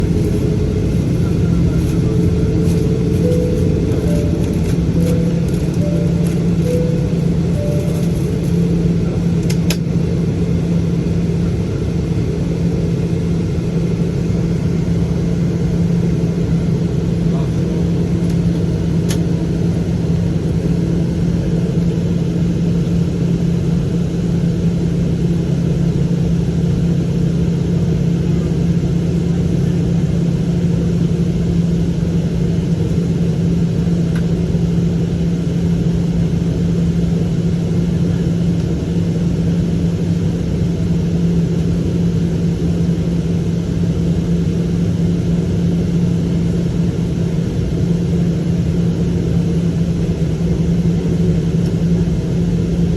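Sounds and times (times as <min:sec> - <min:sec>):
airliner cabin engine hum: 0:00.0 - 0:52.9.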